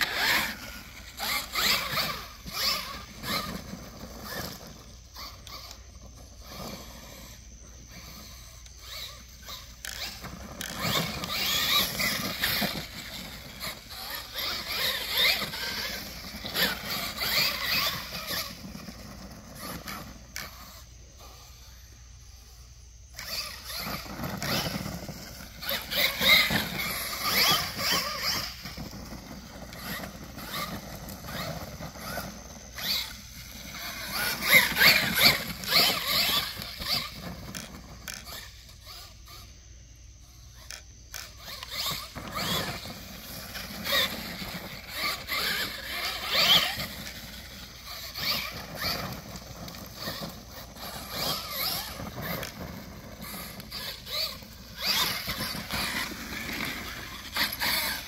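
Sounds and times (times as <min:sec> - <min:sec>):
electric motor whining: 0:00.0 - 0:58.0.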